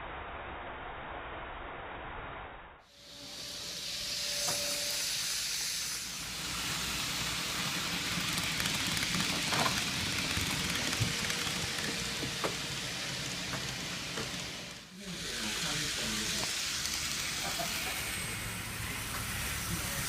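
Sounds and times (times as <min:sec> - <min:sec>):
model train wheels and motor hiss: 0:02.9 - 0:20.0.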